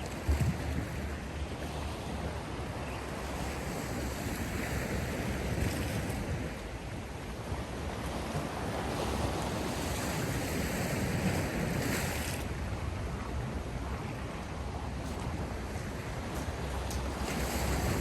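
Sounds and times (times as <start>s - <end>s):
sea waves washing ashore: 0.0s - 18.0s
wind: 0.0s - 18.0s.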